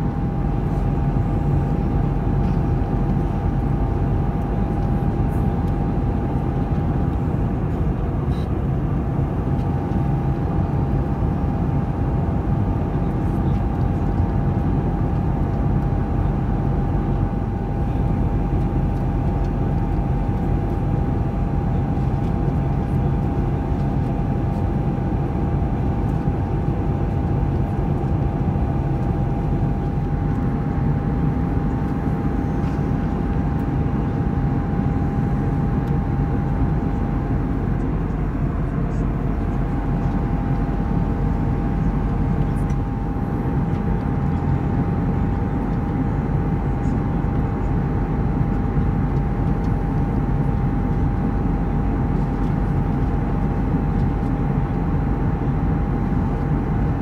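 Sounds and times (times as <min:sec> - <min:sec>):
jet engines low roar: 0:00.0 - 0:57.0.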